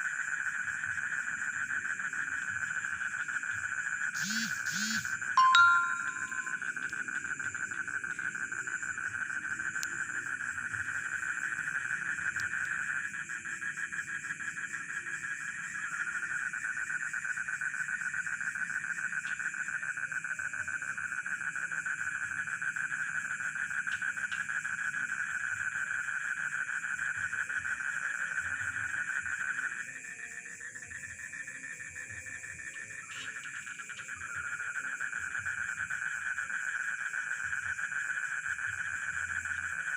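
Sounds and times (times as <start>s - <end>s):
frogs calling: 0.0s - 39.9s
high insect trill: 0.0s - 39.9s.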